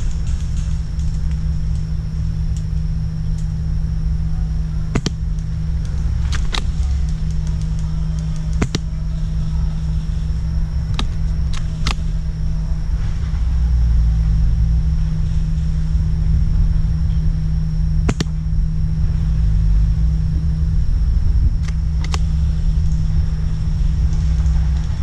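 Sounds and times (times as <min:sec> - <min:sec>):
faint high whine: 0:00.0 - 0:25.0
low rumble on microphone: 0:00.0 - 0:25.0.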